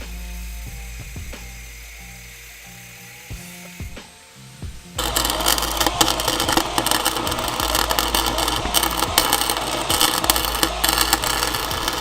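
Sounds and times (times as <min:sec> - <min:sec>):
steady low hum: 0:00.0 - 0:12.0
welding arc crackling: 0:00.0 - 0:12.0.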